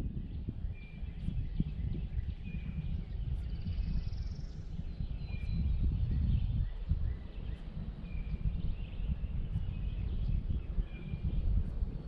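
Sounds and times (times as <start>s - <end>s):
birds singing: 0.0s - 11.7s.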